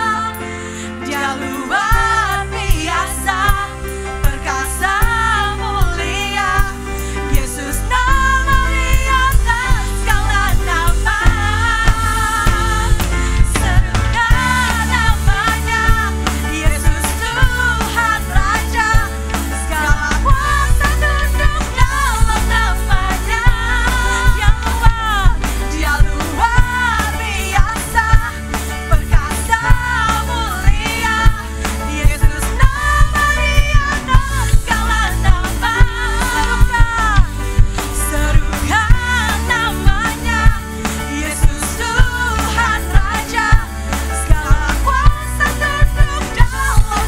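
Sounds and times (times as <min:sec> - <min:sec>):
deep bass: 0:00.0 - 0:47.0
woman singing worship song: 0:00.0 - 0:47.0
drum kit steady beat: 0:01.0 - 0:47.0.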